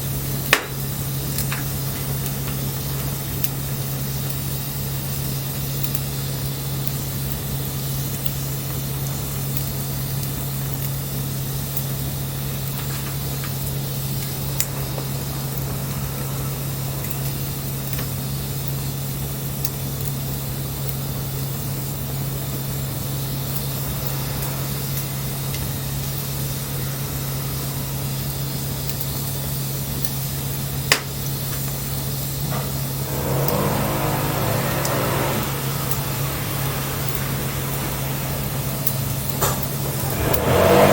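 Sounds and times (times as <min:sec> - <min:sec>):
bonfire hissing: 0:00.0 - 0:40.9
fire popping: 0:00.1 - 0:40.9.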